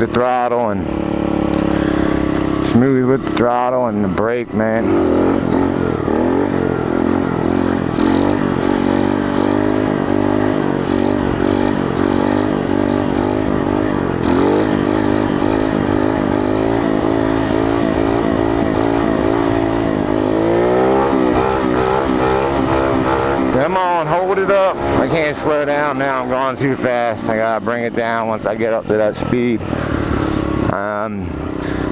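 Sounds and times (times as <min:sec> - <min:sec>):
motorbike engine revving: 0:00.0 - 0:31.9.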